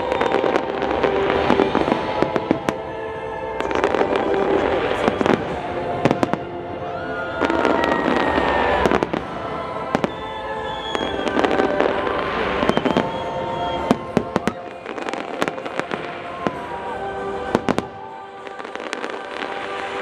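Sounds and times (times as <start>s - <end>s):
fireworks bangs and crackling: 0.0s - 2.9s, 3.6s - 6.6s, 7.3s - 20.0s
music with long held notes: 0.0s - 20.0s.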